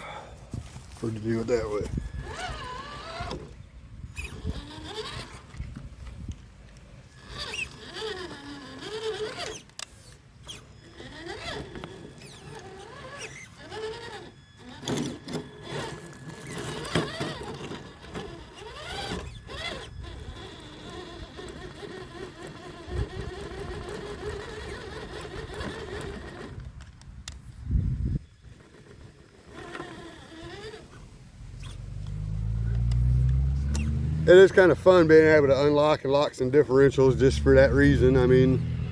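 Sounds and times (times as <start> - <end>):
toy car electric motor whining: 0.1 - 38.8.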